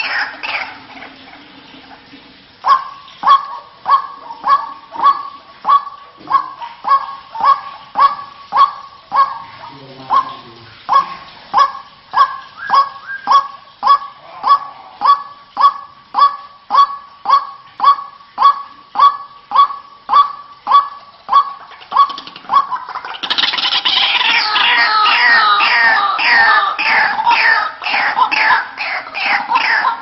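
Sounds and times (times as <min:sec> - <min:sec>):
waterhen honking calls: 0:00.0 - 0:30.0.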